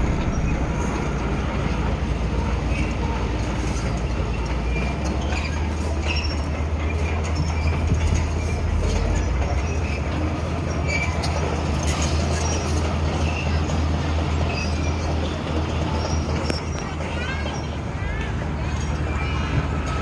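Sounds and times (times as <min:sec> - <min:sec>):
crawler tracks squeaking and clanking: 0:00.0 - 0:20.0
diesel engine droning: 0:00.0 - 0:20.0.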